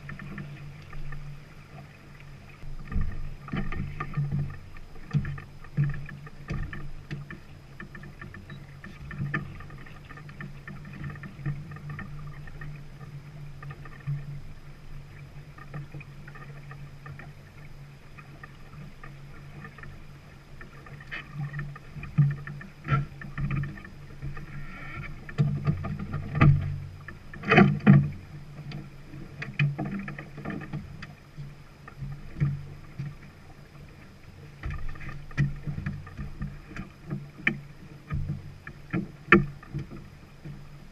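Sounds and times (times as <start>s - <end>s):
water washing along hull: 0.0s - 40.9s.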